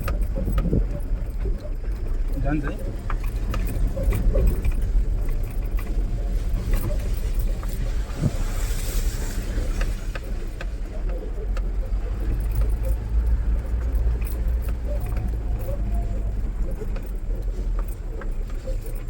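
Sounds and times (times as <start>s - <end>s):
body rattles and knocks: 0.0s - 19.0s
pickup engine rumble: 0.0s - 19.0s.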